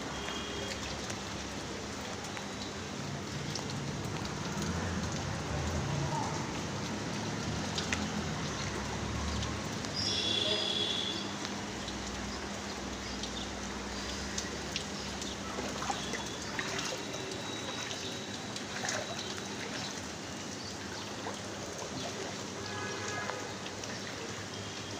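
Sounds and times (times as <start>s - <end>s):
rain falling: 0.0s - 24.9s
water trickling: 0.0s - 24.9s.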